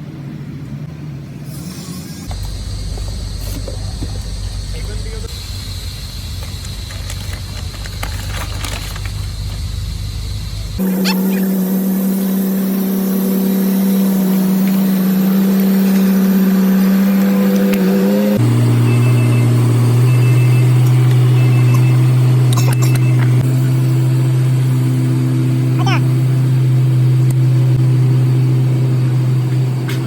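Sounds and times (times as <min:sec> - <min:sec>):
machine humming: 0:02.2 - 0:30.0.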